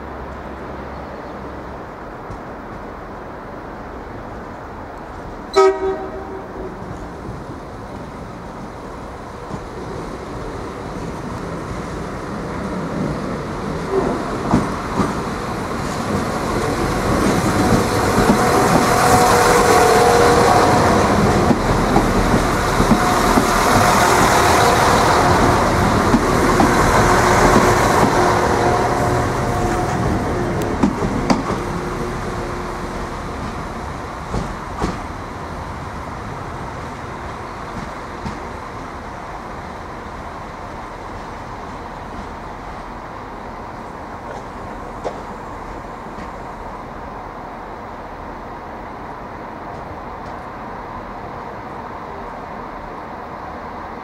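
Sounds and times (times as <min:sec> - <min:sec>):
diesel train passing: 0:00.0 - 0:54.0.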